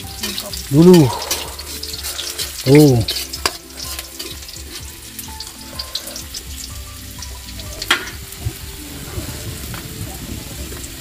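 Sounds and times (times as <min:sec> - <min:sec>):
leaves sizzling in hot oil: 0:00.0 - 0:11.0.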